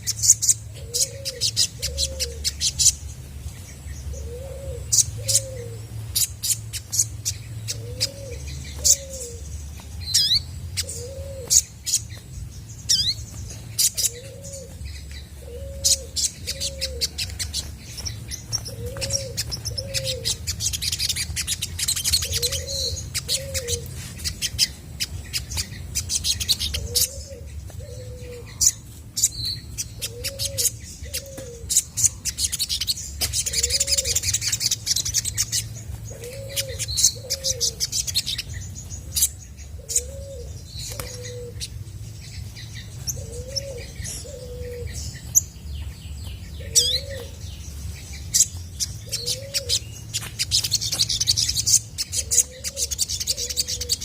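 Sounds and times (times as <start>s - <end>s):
bird chirping and twittering: 0.0s - 54.0s
dove cooing: 0.2s - 2.9s, 4.0s - 12.3s, 12.9s - 41.8s, 42.8s - 45.5s, 46.5s - 54.0s.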